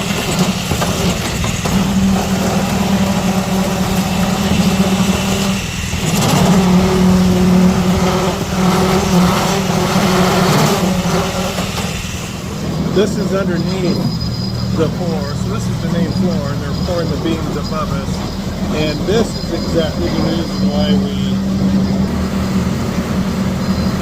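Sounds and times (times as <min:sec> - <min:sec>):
concrete mixer engine running: 0:00.0 - 0:24.0.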